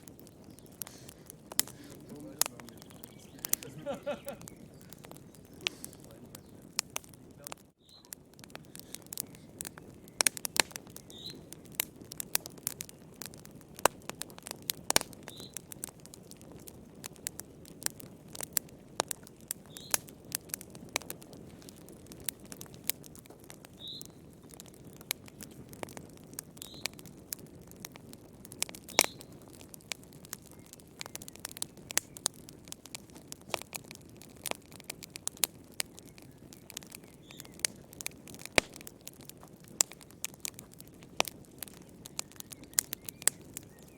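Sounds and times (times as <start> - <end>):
fire crackling and popping: 0.0 - 43.9
flames rushing: 0.0 - 43.9.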